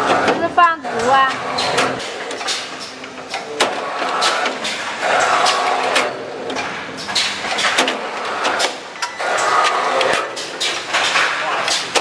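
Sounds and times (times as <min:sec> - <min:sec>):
machine clicks and clacks: 0:00.0 - 0:12.0.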